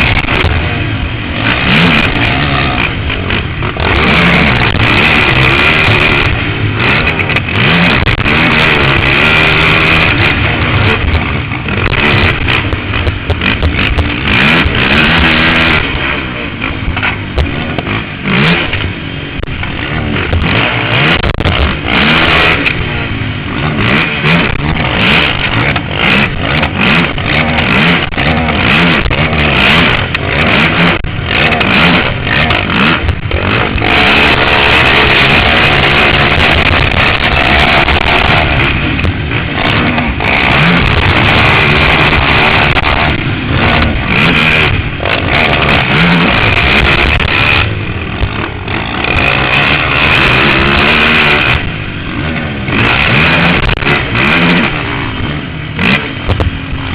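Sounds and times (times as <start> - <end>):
quad engine revving: 0.0 - 56.9.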